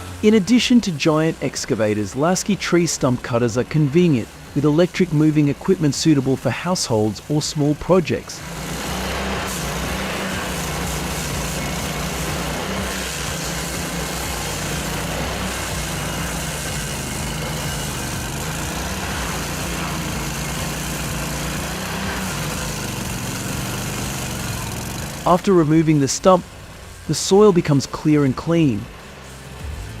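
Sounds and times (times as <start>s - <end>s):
stump grinder engine running: 0.0s - 30.0s.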